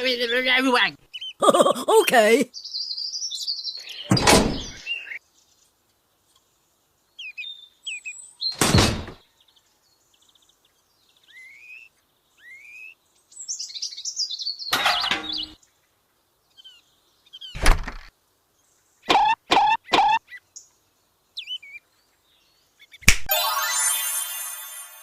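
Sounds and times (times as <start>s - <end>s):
small birds chirping: 0.0s - 23.1s.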